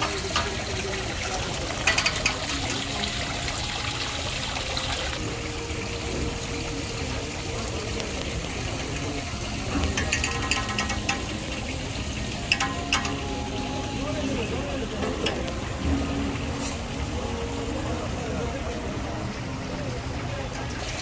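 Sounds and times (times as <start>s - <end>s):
water splashing down fountain: 0.0s - 21.0s.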